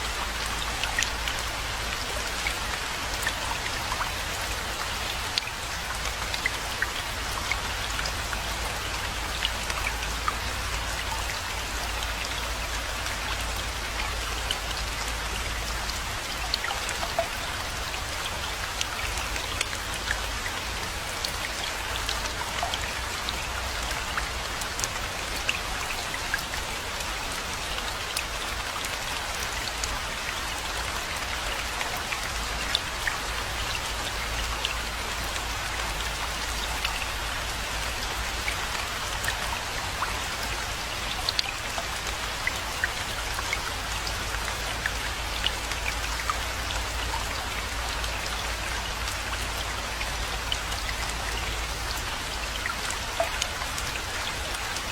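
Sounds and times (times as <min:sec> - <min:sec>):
rain hiss: 0:00.0 - 0:54.9.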